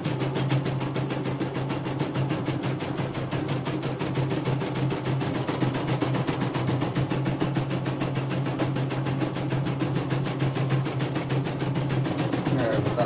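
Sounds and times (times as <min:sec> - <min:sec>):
embroidery machine needle clatter: 0:02.0 - 0:13.0.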